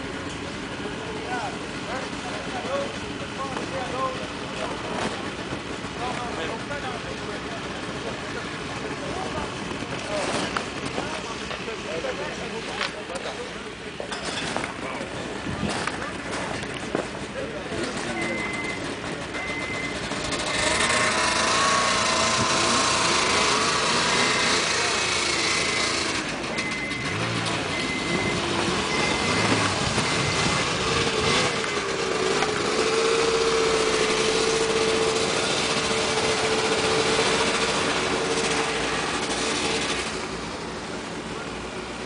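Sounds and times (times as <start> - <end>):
snowmobile engines revving: 0.0 - 42.0.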